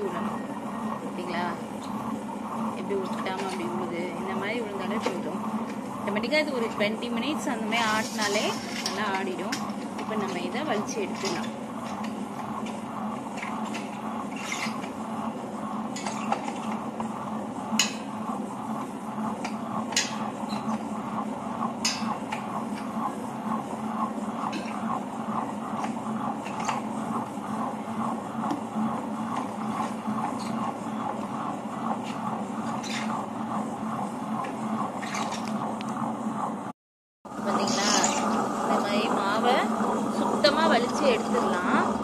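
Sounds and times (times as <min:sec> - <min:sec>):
wet grinder humming and churning: 0:00.0 - 0:36.7, 0:37.3 - 0:42.0.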